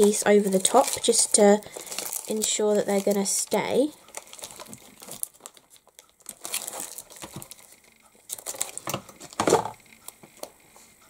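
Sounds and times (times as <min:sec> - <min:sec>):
tape crinkling and tearing: 0:00.0 - 0:09.4.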